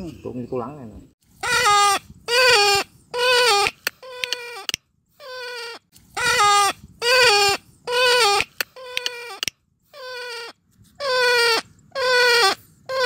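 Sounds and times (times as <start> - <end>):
bird wailing calls: 1.4 - 13.0.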